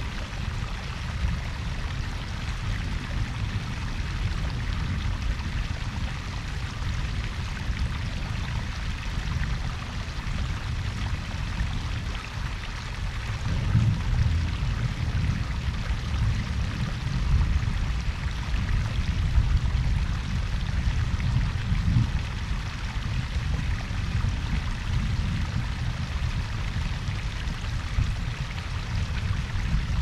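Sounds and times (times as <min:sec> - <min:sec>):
low water rumble: 0:00.0 - 0:30.0
waterfall rushing and splashing: 0:00.0 - 0:30.0.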